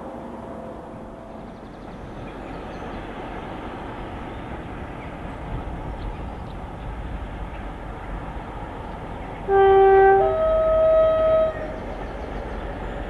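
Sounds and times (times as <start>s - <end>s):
distant train rumbling: 0.0s - 13.0s.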